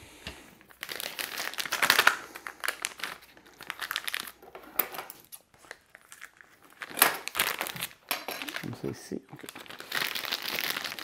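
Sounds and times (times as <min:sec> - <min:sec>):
plastic bag crinkling: 0:00.6 - 0:11.0.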